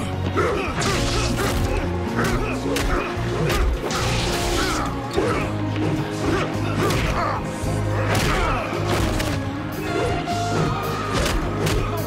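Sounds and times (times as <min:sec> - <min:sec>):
dramatic orchestral music: 0:00.0 - 0:12.0.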